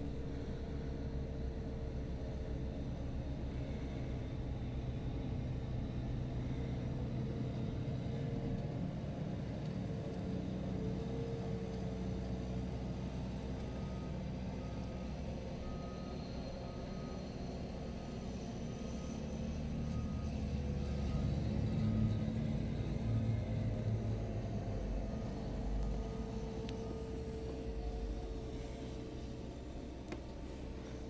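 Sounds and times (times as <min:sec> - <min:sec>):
tractor engine running under load: 0:00.0 - 0:31.0.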